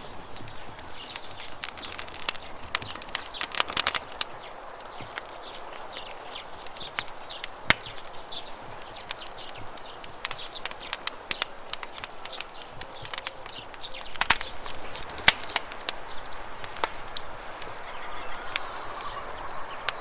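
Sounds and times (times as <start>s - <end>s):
campfire crackling and popping: 0.0s - 20.0s
small birds chirping: 0.0s - 20.0s.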